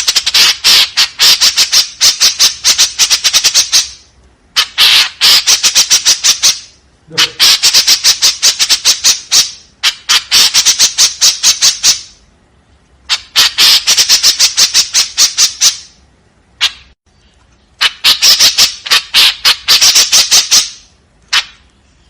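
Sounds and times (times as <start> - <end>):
bird chattering calls: 0.0 - 4.0, 4.6 - 12.2, 13.1 - 16.0, 16.6 - 17.0, 17.6 - 22.0.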